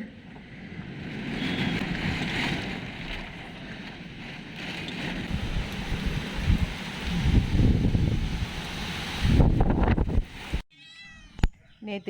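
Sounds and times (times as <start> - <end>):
strong gusty wind: 0.1 - 10.6.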